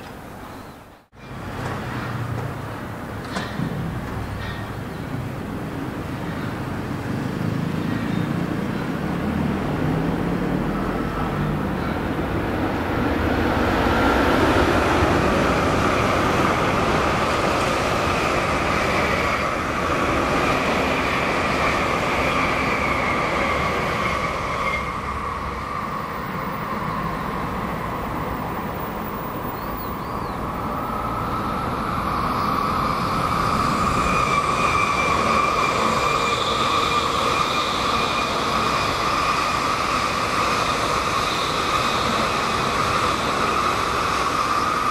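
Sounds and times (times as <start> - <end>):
bullet train passing: 0.0 - 44.9.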